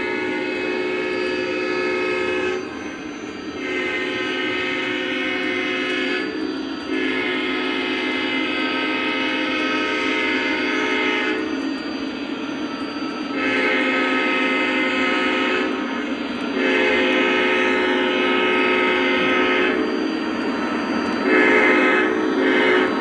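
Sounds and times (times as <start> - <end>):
multi-note train horn: 0.0 - 11.7, 13.3 - 23.0.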